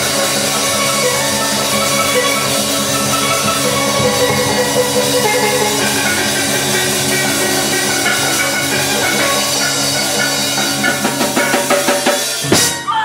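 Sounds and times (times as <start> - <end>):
drum kit: 0.0 - 13.0
steel pans playing: 0.0 - 13.0.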